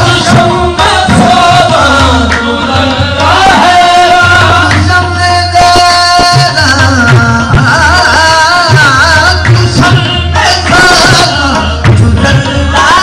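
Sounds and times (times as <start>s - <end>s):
hand drum: 0.0s - 13.0s
harmonium: 0.0s - 13.0s.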